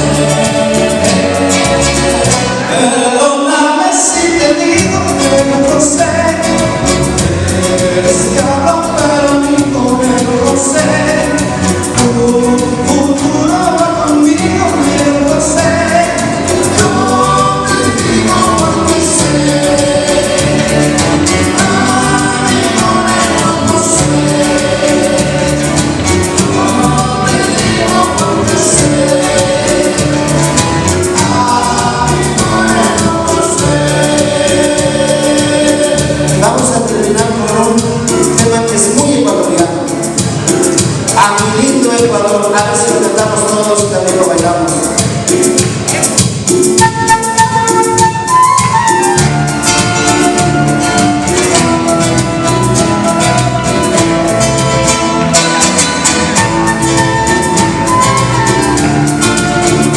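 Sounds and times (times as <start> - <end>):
voices singing in harmony: 0.0 - 38.3, 46.8 - 59.9
instrumental accompaniment with bass: 0.0 - 59.9.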